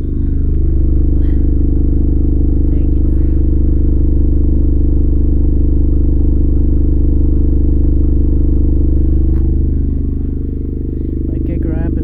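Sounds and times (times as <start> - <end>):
subwoofer playing low bass tone: 0.0 - 12.0.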